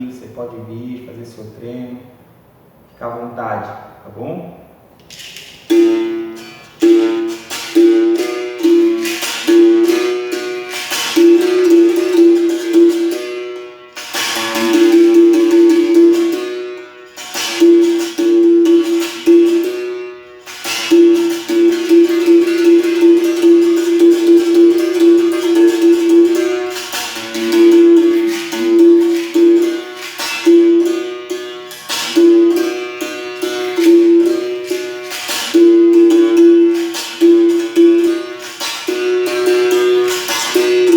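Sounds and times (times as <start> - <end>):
berimbau struck notes: 5.6 - 40.9.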